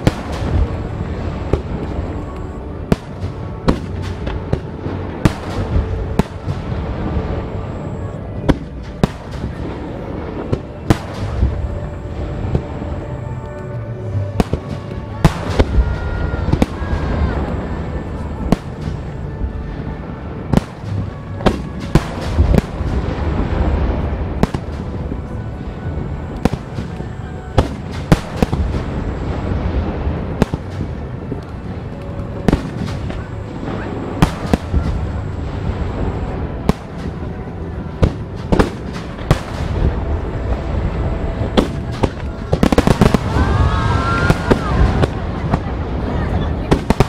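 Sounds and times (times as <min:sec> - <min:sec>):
fireworks bursting with sharp bangs: 0:00.0 - 0:47.0
low rumble of launches and crackle: 0:00.0 - 0:47.0
music: 0:00.0 - 0:47.0.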